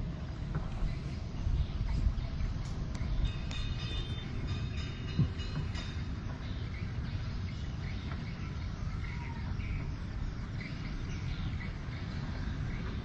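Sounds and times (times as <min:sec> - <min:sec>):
steady low rumble: 0:00.0 - 0:13.0
faint bird chirps: 0:00.7 - 0:13.0.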